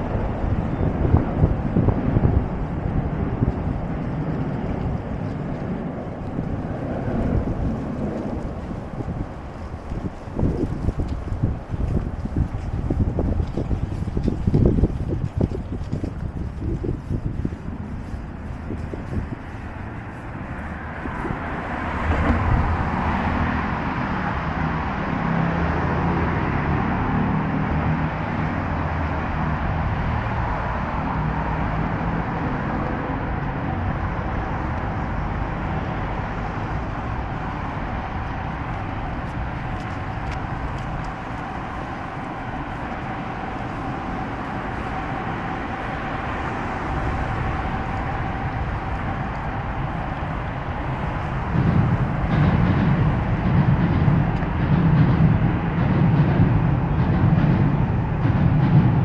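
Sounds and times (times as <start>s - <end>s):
low engine rumble: 0.0s - 59.0s
road traffic passing: 0.0s - 59.0s.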